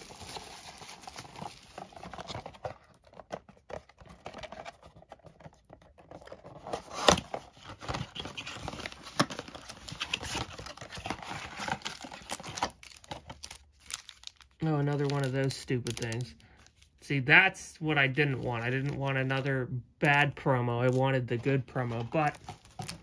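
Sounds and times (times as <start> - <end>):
paper and foil crinkling: 0.0 - 17.0, 20.8 - 23.0.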